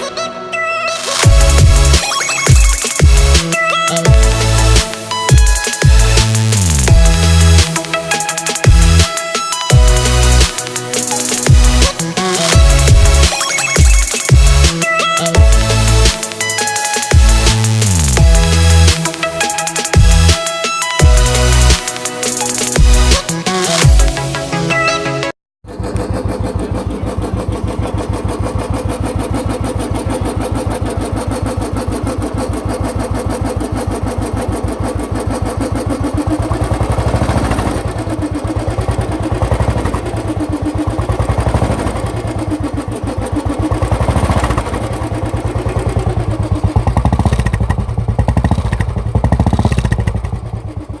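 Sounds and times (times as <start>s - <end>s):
motorcycle engine thumping: 1.2s - 1.9s, 2.5s - 19.2s, 19.9s - 20.4s, 25.6s - 51.0s.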